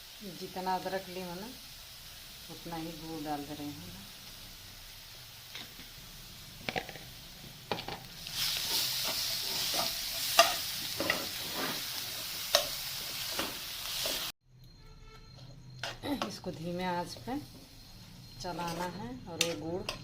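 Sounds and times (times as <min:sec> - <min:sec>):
ghee sizzling: 0:00.0 - 0:14.4, 0:15.7 - 0:20.0.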